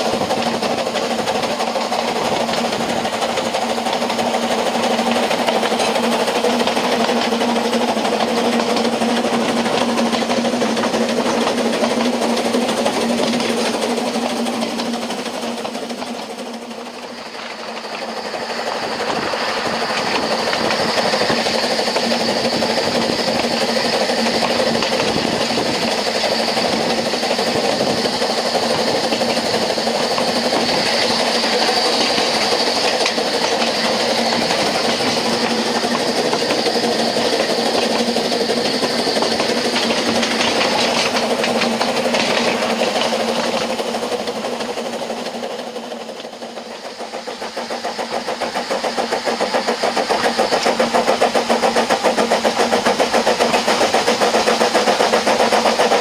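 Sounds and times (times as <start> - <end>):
steam locomotive exhaust beats: 0.0 - 56.0
train wheels on rail: 0.0 - 56.0.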